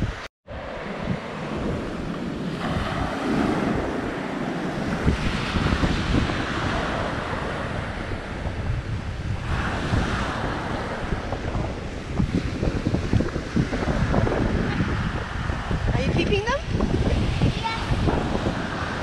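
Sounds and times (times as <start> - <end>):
surf washing on a beach: 0.0 - 19.0
wind buffeting the microphone: 0.0 - 19.0.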